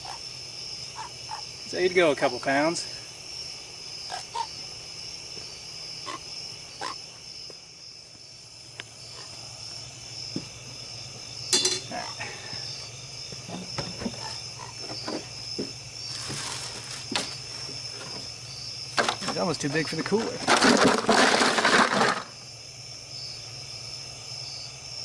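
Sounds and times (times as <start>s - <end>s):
frogs croaking: 0.0s - 20.3s, 20.9s - 25.0s
insects trilling: 0.0s - 25.0s.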